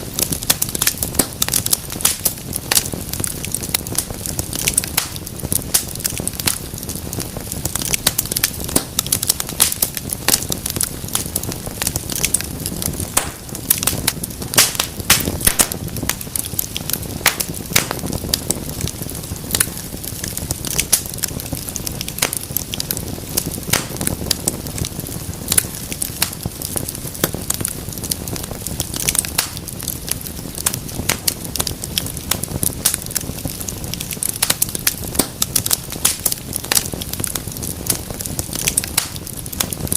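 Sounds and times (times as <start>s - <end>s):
low hiss of flame: 0.0s - 39.9s
wood fire crackling and popping: 0.0s - 39.9s.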